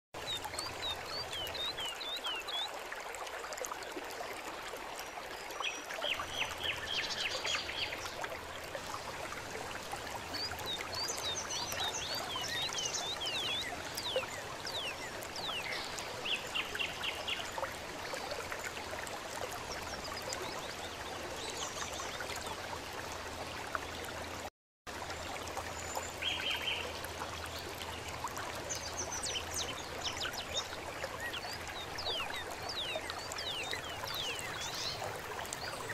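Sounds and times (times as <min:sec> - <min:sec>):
stream trickling: 0:00.2 - 0:35.9.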